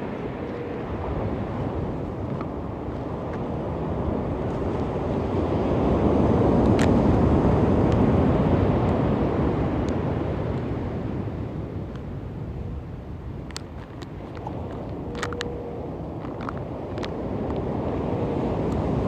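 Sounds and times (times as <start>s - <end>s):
waves washing ashore: 0.0s - 19.0s.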